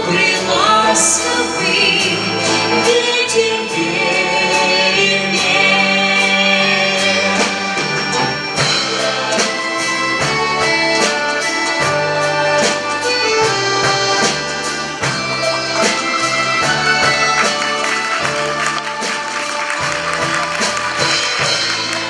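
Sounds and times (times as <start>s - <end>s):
folk instrument orchestra playing: 0.0s - 22.0s.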